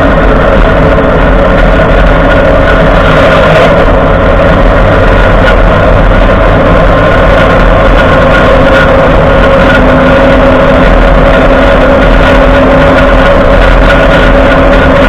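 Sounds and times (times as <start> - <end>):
truck road rumble: 0.0 - 15.0
whining grinding wheel hub: 0.0 - 15.0.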